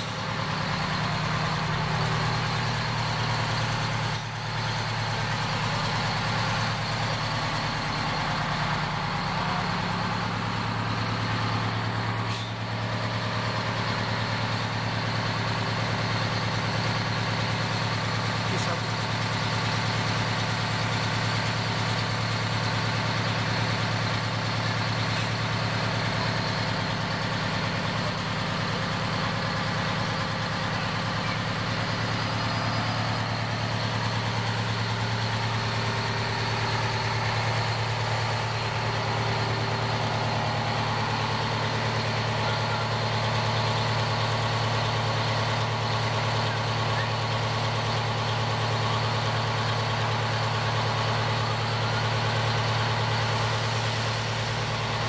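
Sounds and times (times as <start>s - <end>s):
fire engine idling: 0.0s - 55.0s.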